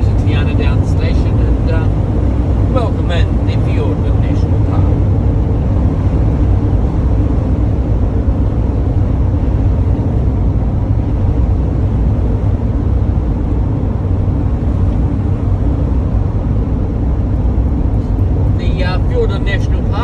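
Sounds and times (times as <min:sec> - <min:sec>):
vehicle engine and tyres droning: 0:00.0 - 0:20.0.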